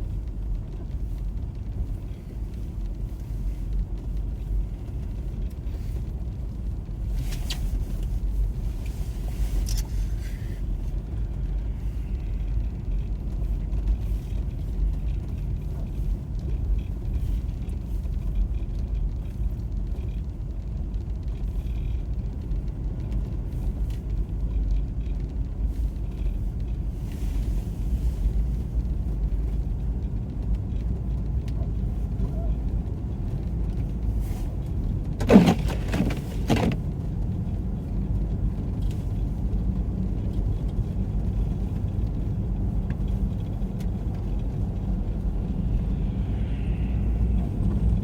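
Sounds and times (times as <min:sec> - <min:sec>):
car engine rumble from inside cabin: 0:00.0 - 0:48.0
road noise: 0:00.0 - 0:48.0.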